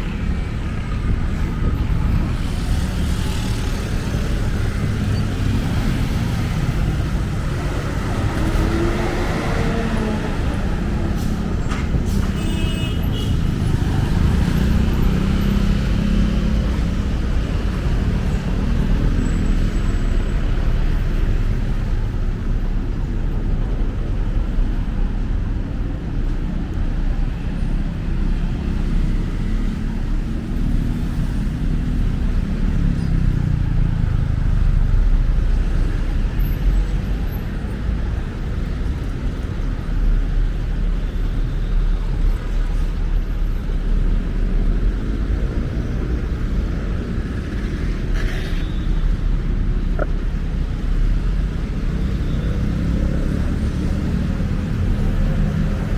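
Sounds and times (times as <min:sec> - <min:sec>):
passing cars rumbling: 0:00.0 - 0:55.9.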